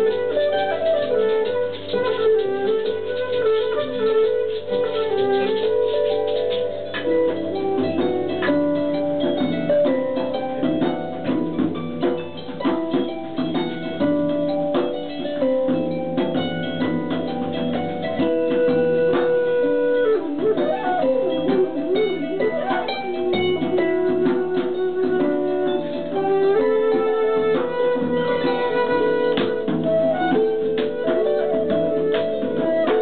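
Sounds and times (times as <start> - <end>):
flute playing: 0.0 - 33.0
plucked harp notes: 5.4 - 33.0.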